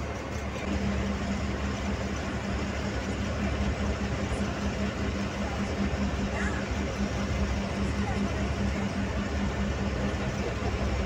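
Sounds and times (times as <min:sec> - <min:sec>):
bus engine running: 0:00.0 - 0:11.0
pulsing hum: 0:00.0 - 0:11.0.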